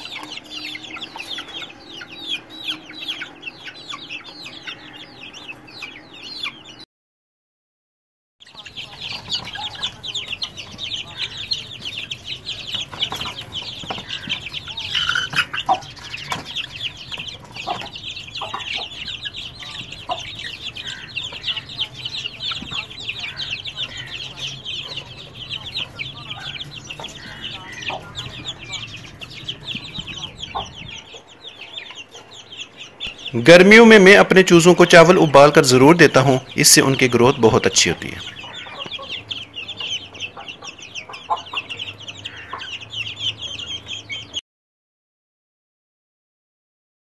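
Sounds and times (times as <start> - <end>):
chicks peeping: 0.0 - 6.8, 8.4 - 44.4.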